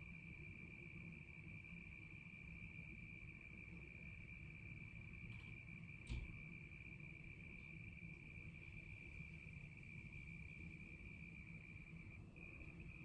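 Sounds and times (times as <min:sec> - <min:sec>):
crickets trilling: 0:00.0 - 0:13.0
low background hum: 0:00.0 - 0:13.0.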